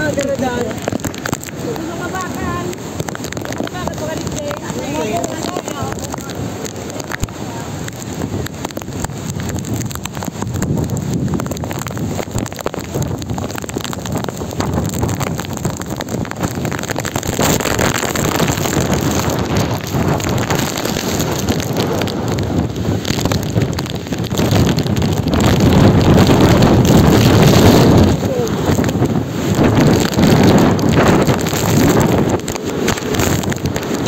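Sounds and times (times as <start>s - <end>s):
wind blasting across microphone: 0.0s - 34.0s.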